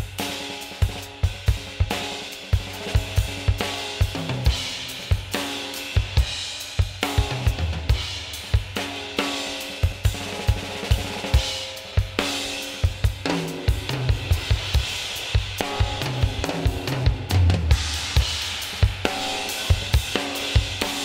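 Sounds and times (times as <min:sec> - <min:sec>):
compressed drum kit beat: 0:00.0 - 0:21.0.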